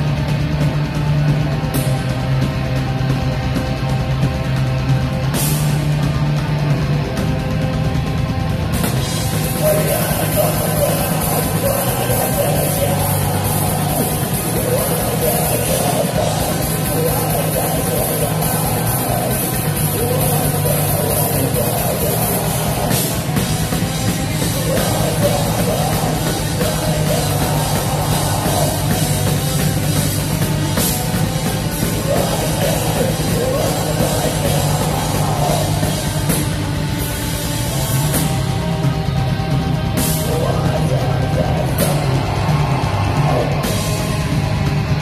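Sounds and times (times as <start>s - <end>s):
distorted guitars: 0.0s - 45.0s
rapid dense drumming: 0.0s - 45.0s.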